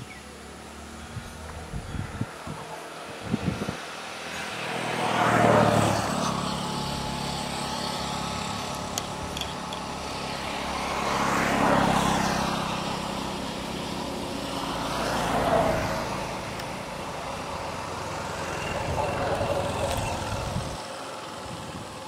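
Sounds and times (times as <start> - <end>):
traffic engine hum: 0.0 - 22.0
vehicles passing: 0.0 - 22.0.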